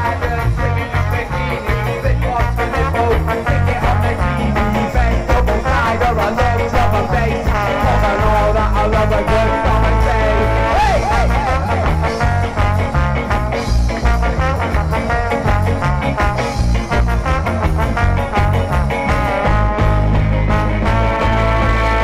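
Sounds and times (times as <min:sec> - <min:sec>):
live band playing ska: 0:00.0 - 0:22.0.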